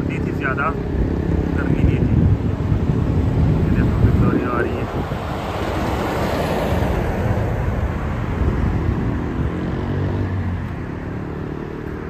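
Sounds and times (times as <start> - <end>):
lorry passing close by: 0.0 - 12.0
road traffic engine drone: 0.0 - 12.0.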